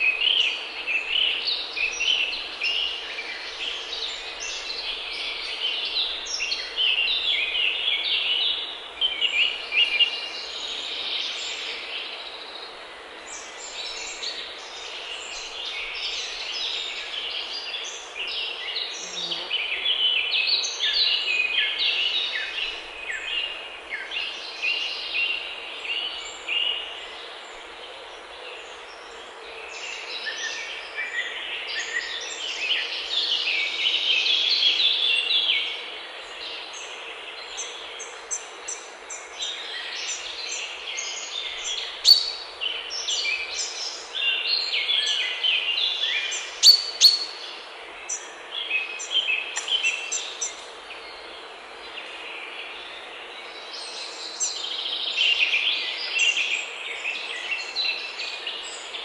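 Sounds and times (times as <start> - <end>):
outdoor ambience hiss: 0.0 - 59.0
songbirds chirping: 0.0 - 59.0.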